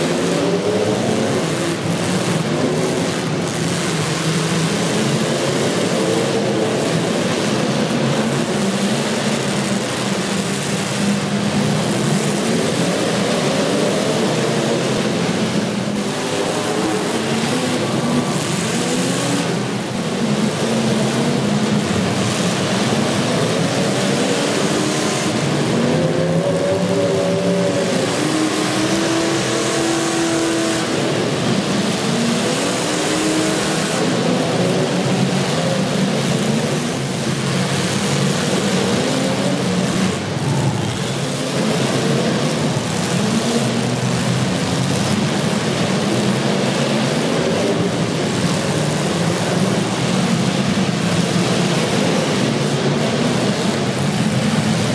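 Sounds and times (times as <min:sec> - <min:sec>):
car engines revving: 0:00.0 - 0:54.9.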